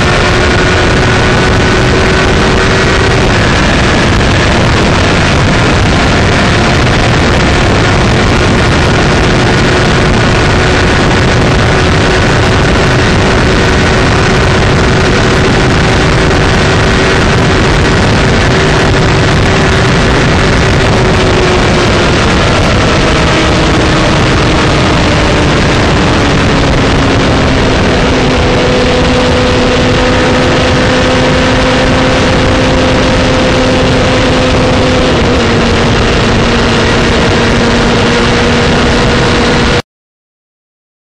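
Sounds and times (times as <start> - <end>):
motorcycle engine at speed: 0.0 - 39.8
wind rush: 0.0 - 39.8.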